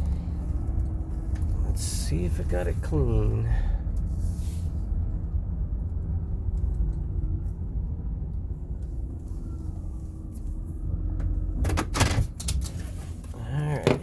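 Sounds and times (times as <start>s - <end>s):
van engine rumbling: 0.0s - 14.0s.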